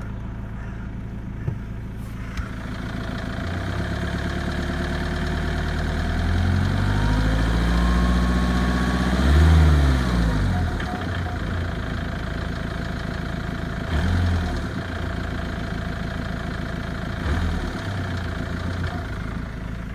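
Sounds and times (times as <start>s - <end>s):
car engine idling and revving: 0.0s - 19.9s.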